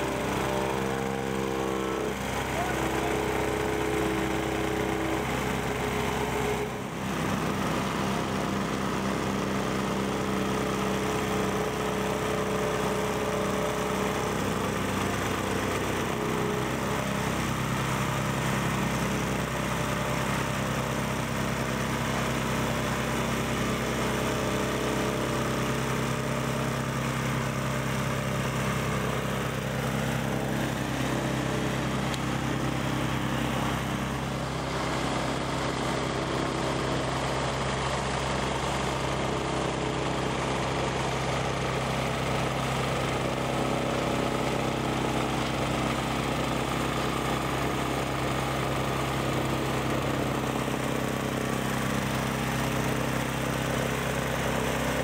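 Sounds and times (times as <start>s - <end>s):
diesel engine running: 0.0s - 55.0s
plate compactor on gravel: 0.0s - 55.0s.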